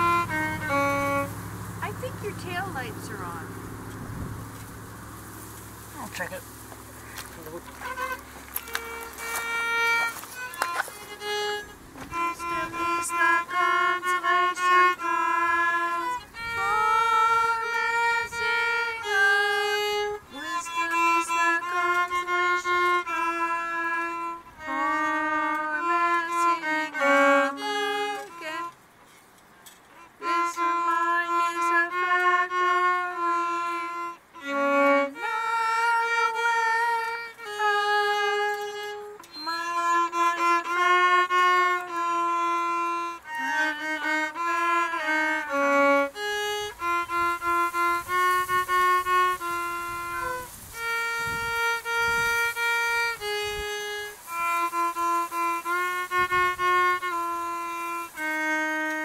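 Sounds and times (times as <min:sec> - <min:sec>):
solo violin melody: 0:00.0 - 0:28.9, 0:29.9 - 0:59.0.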